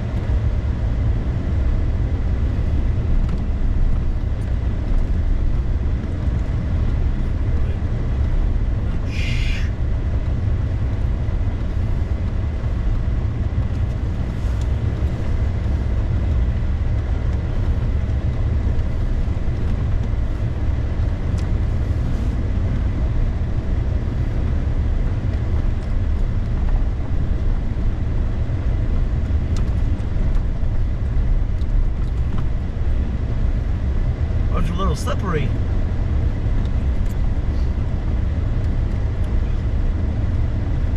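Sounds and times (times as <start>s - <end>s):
vehicle driving on snow: 0.0s - 40.9s.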